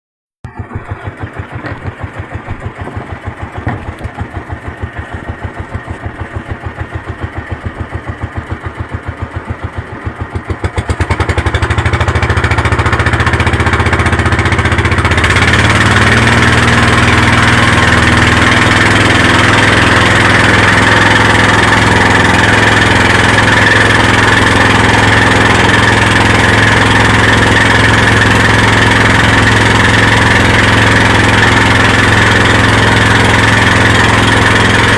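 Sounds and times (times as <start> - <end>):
motorboat engine: 0.4 - 34.9.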